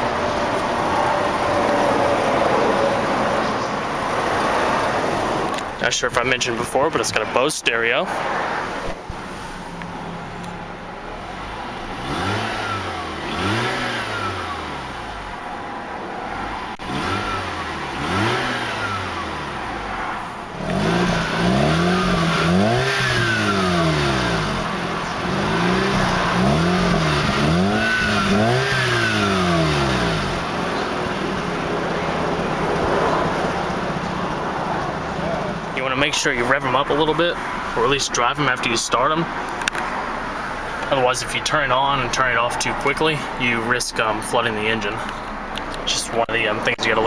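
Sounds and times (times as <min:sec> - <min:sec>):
rotary engine idling and revving: 0:00.0 - 0:47.0.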